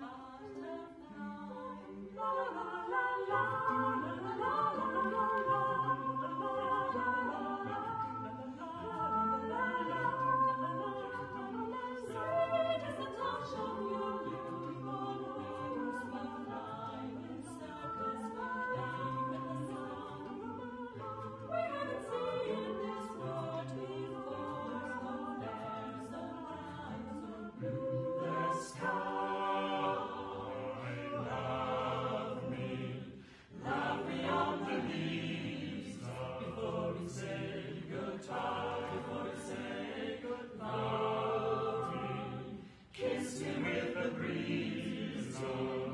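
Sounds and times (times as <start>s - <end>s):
vocal ensemble singing a cappella: 0.0s - 45.9s.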